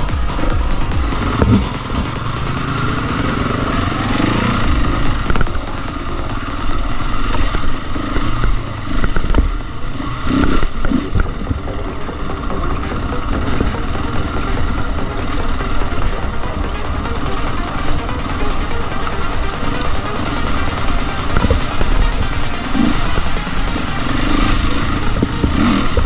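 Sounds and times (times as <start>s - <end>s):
heavy low rumble: 0.0s - 26.0s
motorcycle engine running: 0.0s - 26.0s.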